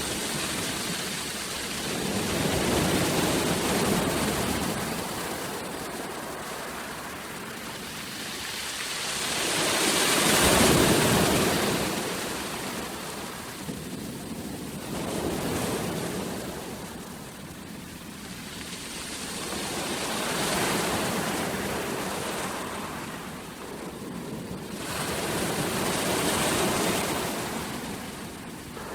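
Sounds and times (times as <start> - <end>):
ocean waves breaking on shore: 0.0 - 28.9.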